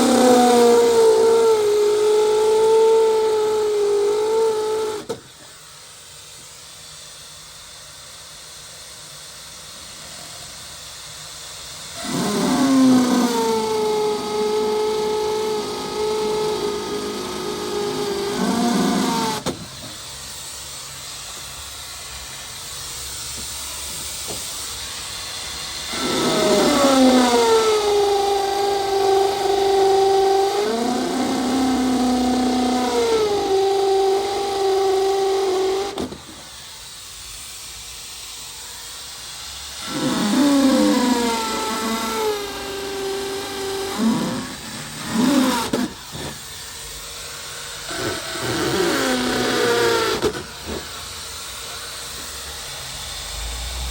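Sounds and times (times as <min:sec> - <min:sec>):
power tool motor running: 0:00.0 - 0:06.1, 0:11.3 - 0:53.9.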